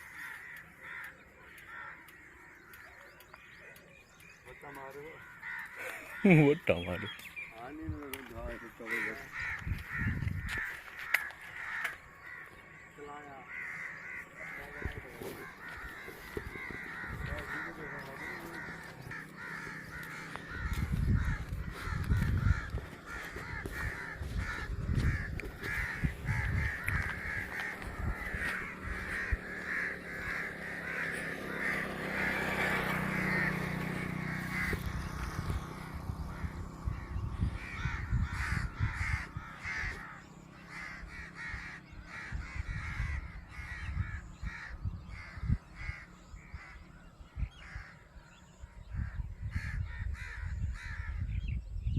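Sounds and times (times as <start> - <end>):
birds calling: 0.0 - 51.9.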